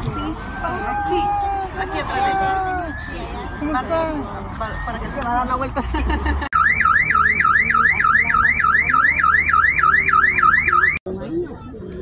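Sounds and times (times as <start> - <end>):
vehicle alarm siren wailing: 0.2 - 5.7, 6.5 - 11.0.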